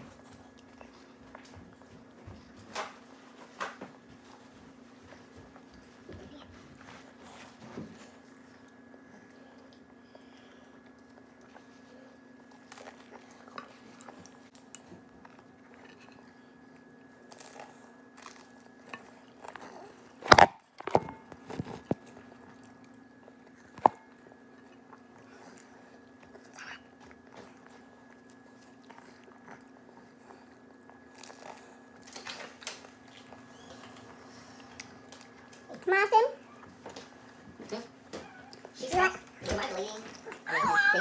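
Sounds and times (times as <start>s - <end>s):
steady low hum: 0.0s - 40.5s
chewing and biting food: 6.5s - 40.6s.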